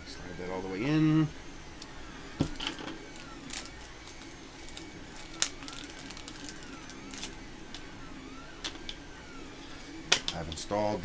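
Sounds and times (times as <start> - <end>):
steady hum: 0.0 - 11.0
stepper motors whining: 0.0 - 11.0.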